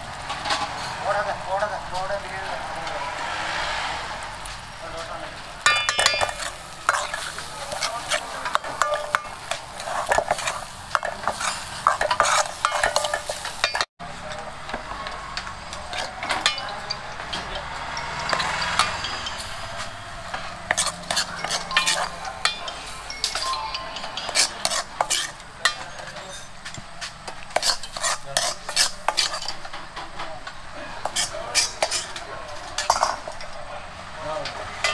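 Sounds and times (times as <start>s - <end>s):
food sizzling in a pan: 0.0s - 13.9s, 14.5s - 34.9s
metal utensil clinking on pan: 5.6s - 33.7s, 34.4s - 34.9s.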